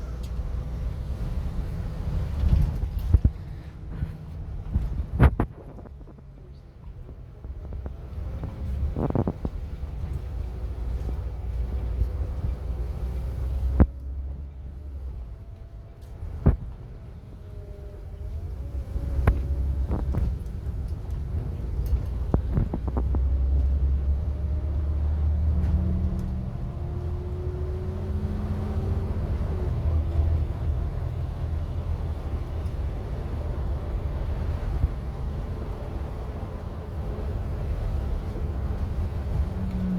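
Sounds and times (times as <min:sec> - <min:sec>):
coach engine: 0:00.0 - 0:39.9
road rumble: 0:00.0 - 0:39.9.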